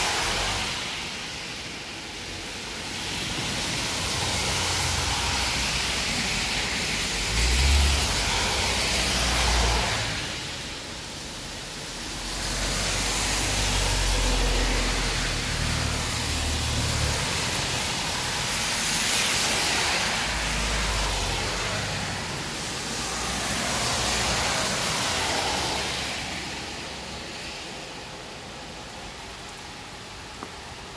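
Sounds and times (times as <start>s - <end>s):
cars swishing past on wet road: 0.0s - 30.9s
heavy rain hissing: 0.0s - 30.9s.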